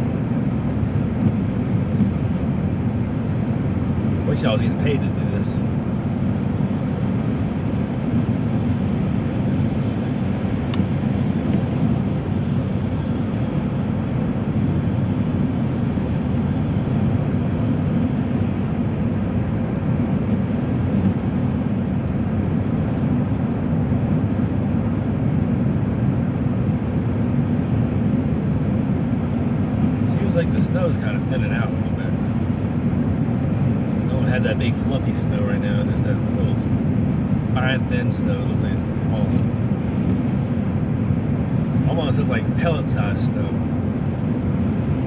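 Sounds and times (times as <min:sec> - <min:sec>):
car engine drone: 0:00.0 - 0:45.0
road and tyre noise: 0:00.0 - 0:45.0.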